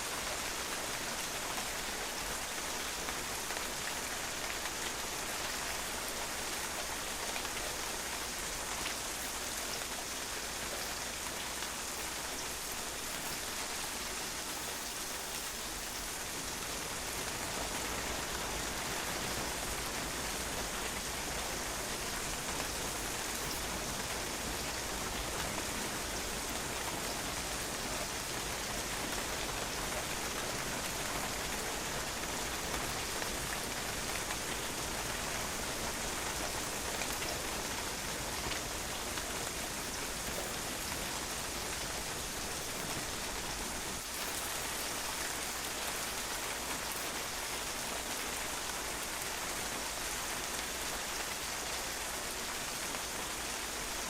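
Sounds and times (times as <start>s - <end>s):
rain spattering on a patio: 0.0s - 54.0s.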